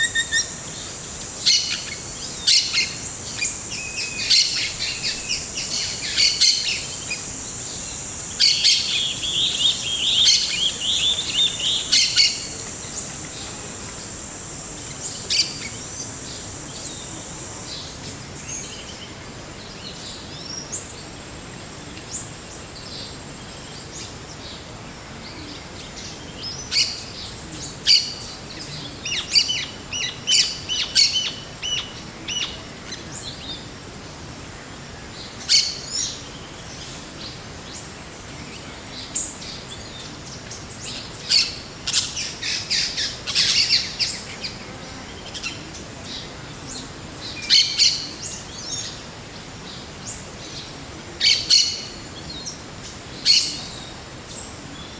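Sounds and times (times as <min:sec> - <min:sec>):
forest birds chirping: 0:00.0 - 0:54.9
steady background hiss: 0:00.0 - 0:54.9.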